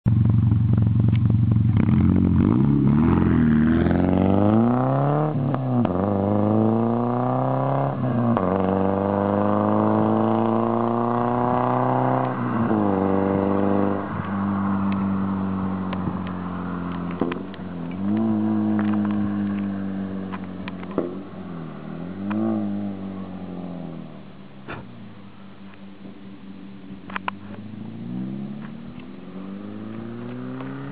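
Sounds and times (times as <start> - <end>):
car engine revving: 1.5 - 30.9.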